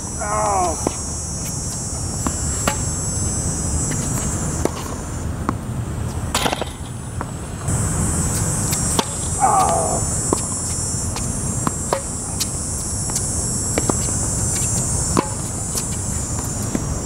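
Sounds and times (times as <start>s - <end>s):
steady high drone: 0.0s - 17.0s
tennis ball hitting rackets: 0.6s - 1.6s, 2.2s - 2.9s, 3.8s - 7.4s, 8.1s - 16.8s.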